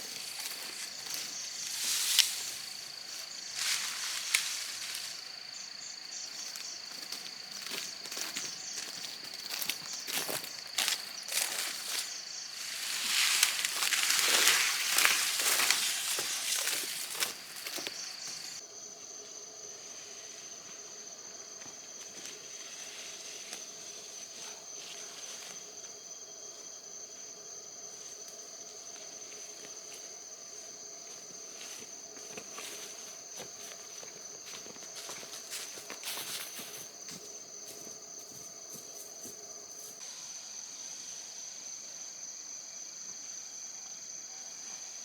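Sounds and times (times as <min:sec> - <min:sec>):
leaves and branches rustling: 0:00.0 - 0:40.0
insect drone: 0:00.0 - 0:45.0.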